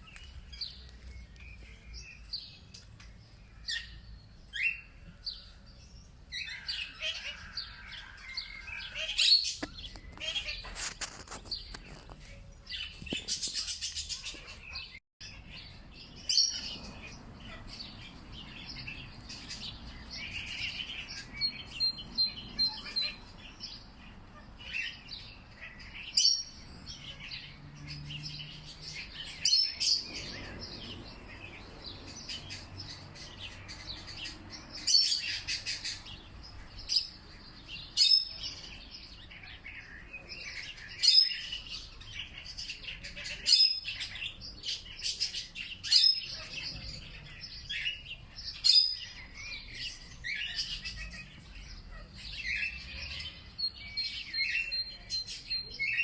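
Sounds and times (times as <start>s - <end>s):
birds chirping and singing: 0.0s - 56.0s.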